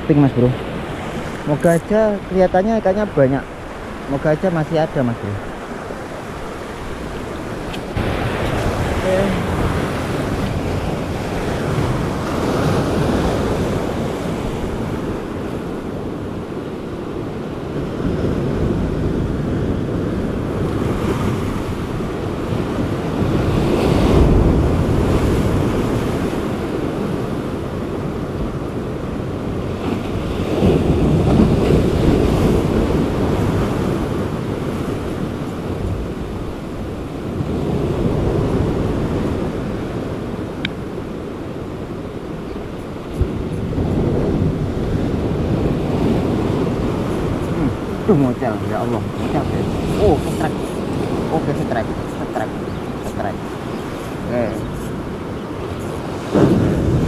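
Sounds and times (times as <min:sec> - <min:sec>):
sea surf breaking on shore: 0:00.0 - 0:57.0
wind buffeting microphone: 0:00.0 - 0:57.0.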